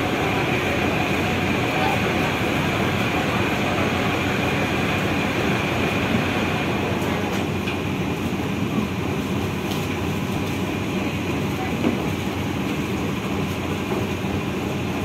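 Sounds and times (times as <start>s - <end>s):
engines rumbling: 0.0s - 15.0s.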